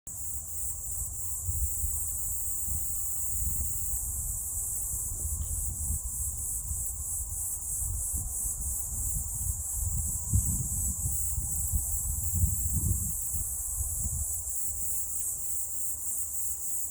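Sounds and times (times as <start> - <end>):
insects chirring: 0.1 - 16.9
wind buffeting microphone: 0.6 - 15.5.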